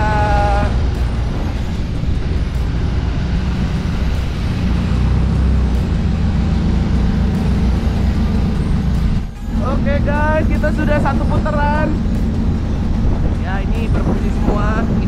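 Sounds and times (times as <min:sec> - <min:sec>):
truck engine rumble: 0:00.0 - 0:15.0
wind noise: 0:00.0 - 0:15.0.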